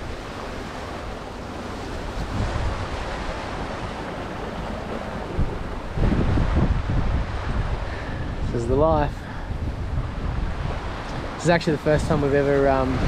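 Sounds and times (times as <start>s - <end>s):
water rushing past hulls: 0.0s - 13.0s
wind buffeting microphone: 0.0s - 13.0s.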